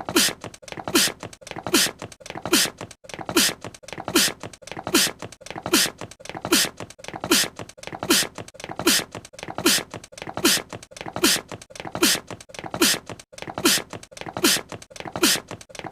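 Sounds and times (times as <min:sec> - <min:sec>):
person sneezing: 0:00.0 - 0:15.6.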